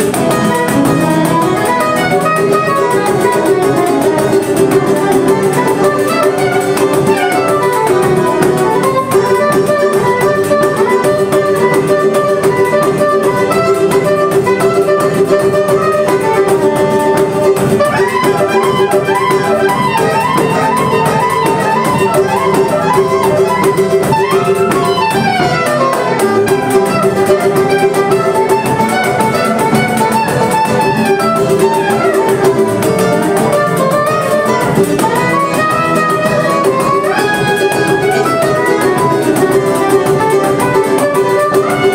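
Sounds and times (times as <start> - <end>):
acoustic guitar: 0.0 - 41.9
cavaquinho strumming: 0.0 - 41.9
pandeiro: 0.0 - 41.9
soprano saxophone melody: 0.0 - 41.9.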